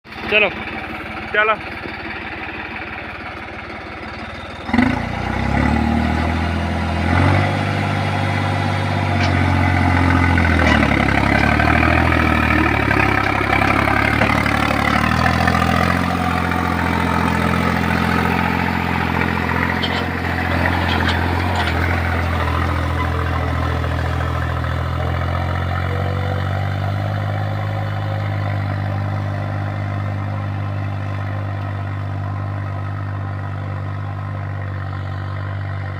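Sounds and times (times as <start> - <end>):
tractor diesel engine revving: 0.0 - 35.9.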